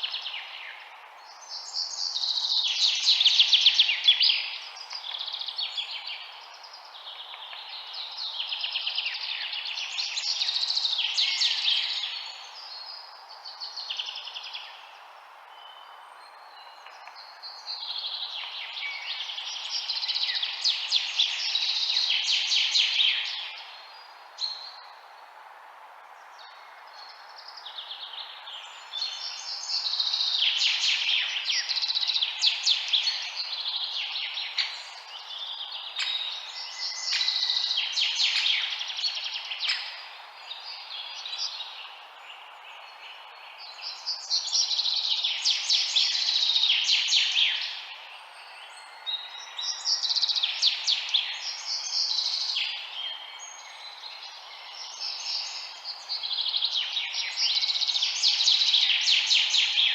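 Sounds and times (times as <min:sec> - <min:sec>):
background hiss: 0:00.0 - 0:59.9
songbirds chirping: 0:00.0 - 0:59.9.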